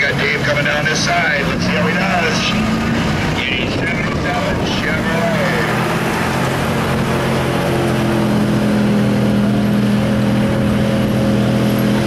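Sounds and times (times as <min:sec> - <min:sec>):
pickup engine under heavy load: 0:00.0 - 0:12.0.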